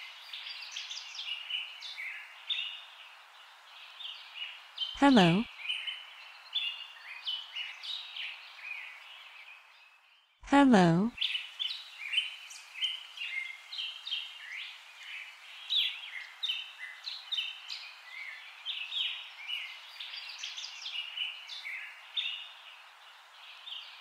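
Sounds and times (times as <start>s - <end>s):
faint steady hiss: 0.0s - 9.8s, 11.2s - 24.0s.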